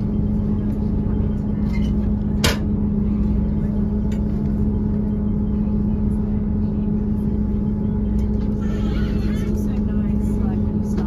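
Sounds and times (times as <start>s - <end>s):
train engine drone: 0.0s - 11.0s.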